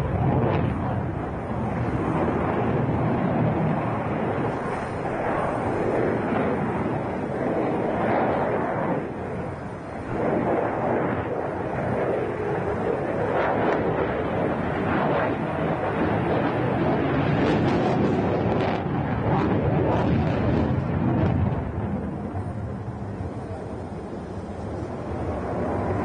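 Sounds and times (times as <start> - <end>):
jet engine roar in flight: 0.0 - 26.0.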